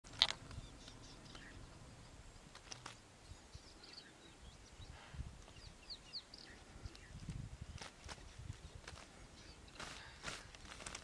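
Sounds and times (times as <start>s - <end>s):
low background noise: 0.1s - 11.0s
small birds chirping: 0.1s - 11.0s.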